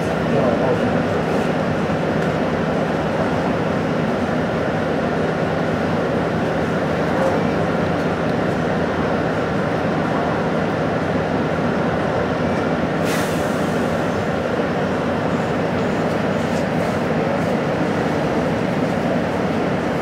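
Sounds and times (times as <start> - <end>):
buses and cars idling: 0.0 - 20.0.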